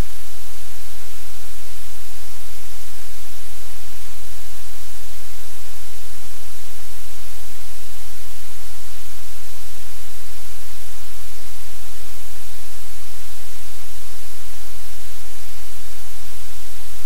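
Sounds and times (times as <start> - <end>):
static-like hiss: 0.0 - 17.0.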